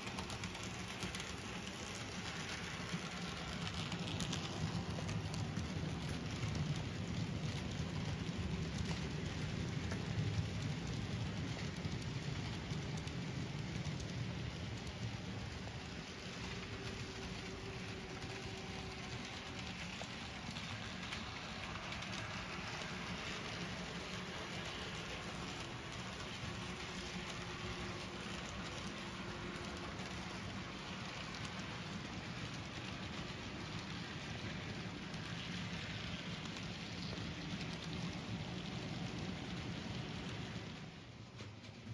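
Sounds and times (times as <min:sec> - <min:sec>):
model train wheels rattling: 0:00.0 - 0:41.9.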